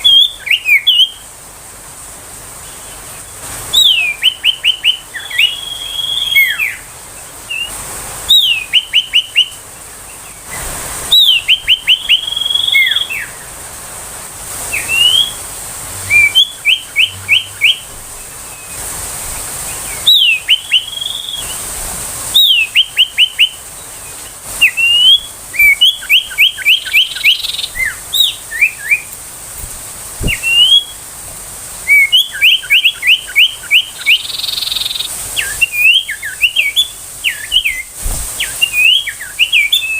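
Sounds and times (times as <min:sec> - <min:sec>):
bird singing: 0:00.0 - 0:01.3, 0:02.6 - 0:13.6, 0:14.7 - 0:21.6, 0:22.4 - 0:29.1, 0:30.2 - 0:31.0, 0:31.9 - 0:39.9.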